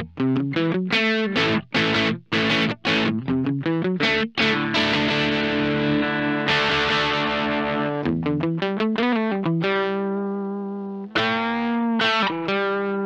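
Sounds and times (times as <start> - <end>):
electric guitar playing: 0.0 - 13.0.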